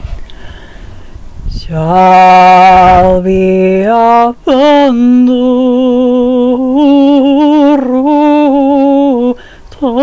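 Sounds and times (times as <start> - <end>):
person singing unaccompanied: 1.4 - 10.0.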